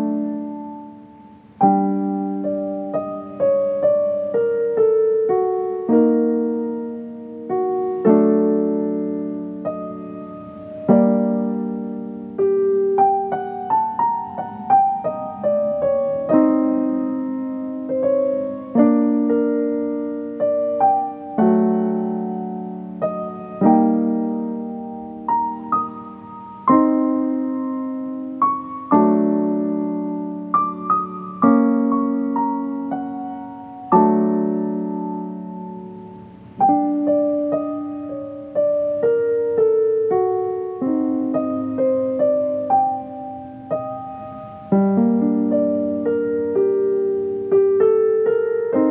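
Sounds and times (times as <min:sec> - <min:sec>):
slow gentle piano piece: 0:00.0 - 0:48.9.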